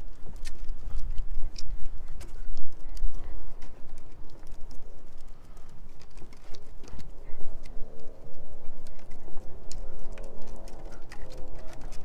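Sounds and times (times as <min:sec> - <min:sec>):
footsteps on wooden boardwalk: 0:00.0 - 0:12.0
steady low rumble: 0:00.0 - 0:12.0
dog claws ticking on boards: 0:00.2 - 0:12.0.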